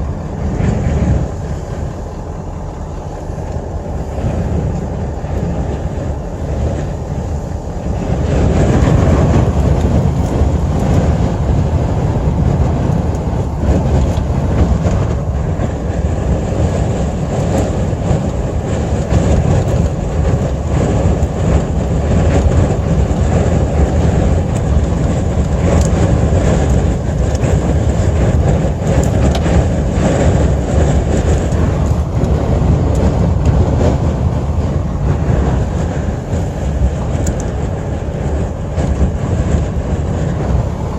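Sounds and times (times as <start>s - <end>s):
strong sandstorm wind: 0.0s - 40.9s.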